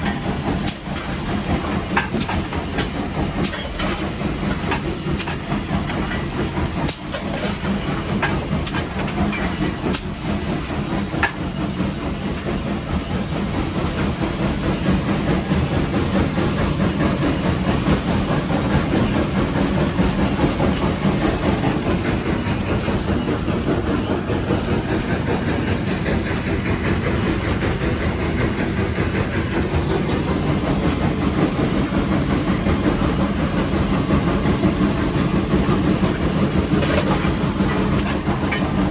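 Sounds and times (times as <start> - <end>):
steam hissing: 0.0 - 38.9
steam locomotive engine running: 0.0 - 38.9.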